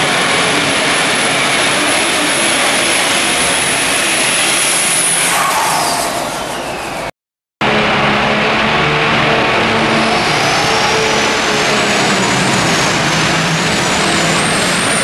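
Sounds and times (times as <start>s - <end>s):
diesel truck engine at full throttle: 0.0s - 15.0s.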